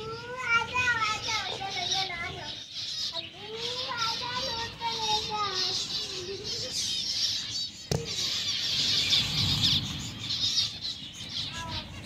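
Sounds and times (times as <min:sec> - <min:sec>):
parrots chirping: 0:00.8 - 0:12.0.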